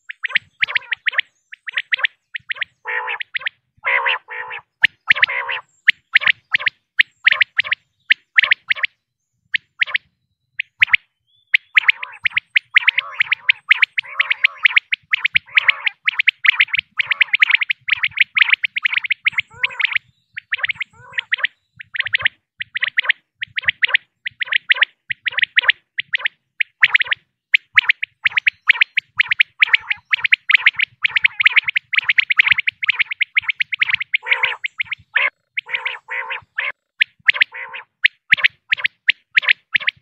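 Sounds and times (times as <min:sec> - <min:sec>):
quail calling: 0:00.0 - 0:08.9, 0:10.6 - 0:40.0.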